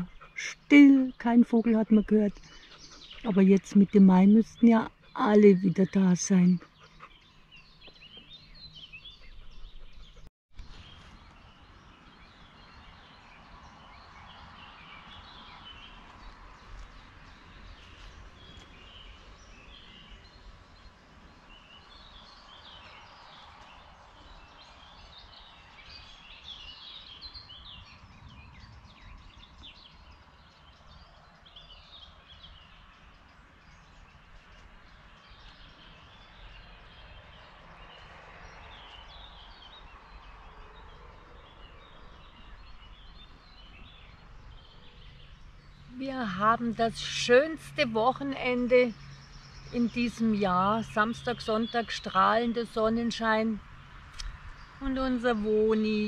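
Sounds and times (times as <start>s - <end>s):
small birds singing and chirping: 0.0s - 56.0s.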